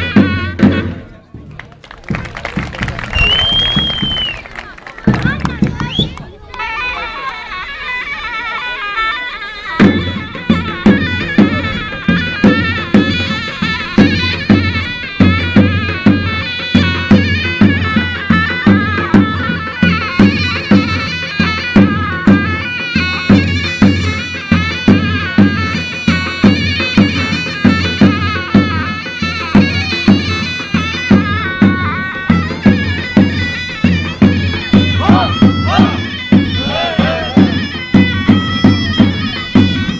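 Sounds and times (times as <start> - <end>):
shrill reed melody: 6.6 - 39.9.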